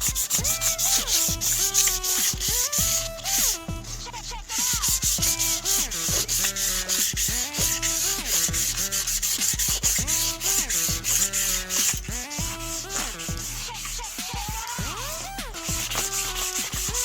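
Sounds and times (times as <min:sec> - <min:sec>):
electronic music with synth: 0:00.0 - 0:17.0
sandpaper rubbing on metal wheel: 0:00.0 - 0:17.0.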